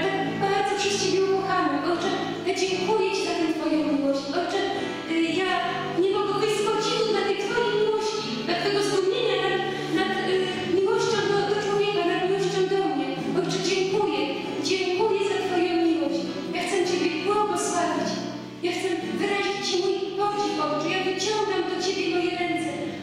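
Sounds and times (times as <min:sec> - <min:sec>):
woman singing into a microphone: 0:00.0 - 0:23.0.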